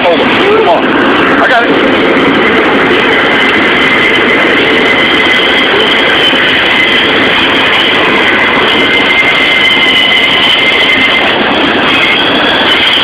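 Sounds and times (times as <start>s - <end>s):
freight train wheels rumbling: 0.0s - 13.0s
high-pitched wheel squeal: 2.2s - 13.0s.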